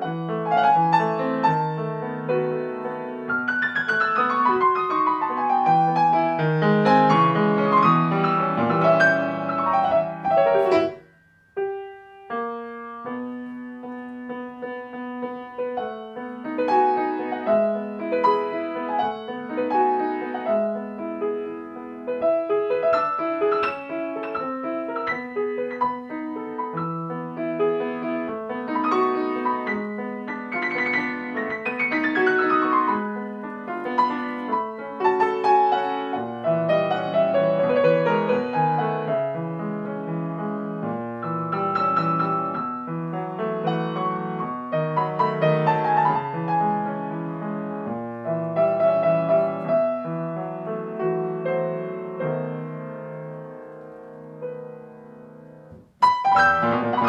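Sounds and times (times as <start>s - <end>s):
solo grand piano: 0.0s - 57.0s.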